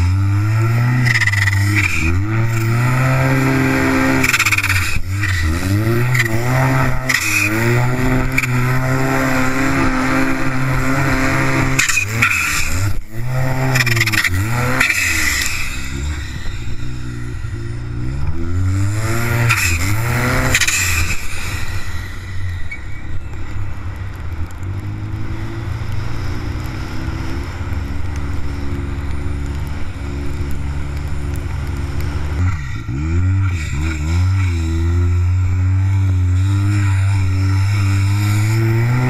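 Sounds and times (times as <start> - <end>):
snowmobile engine revving: 0.0 - 23.4, 24.9 - 39.0.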